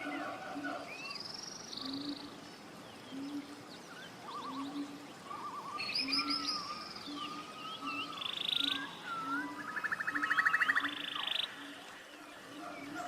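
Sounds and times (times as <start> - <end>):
birds whistling and trilling: 0.0 - 13.0.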